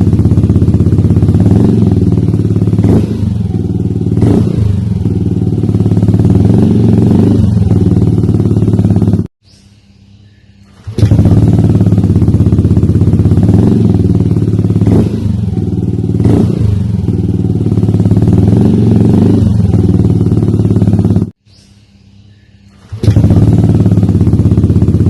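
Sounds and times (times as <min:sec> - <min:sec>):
scooter engine drone: 0:00.0 - 0:25.0.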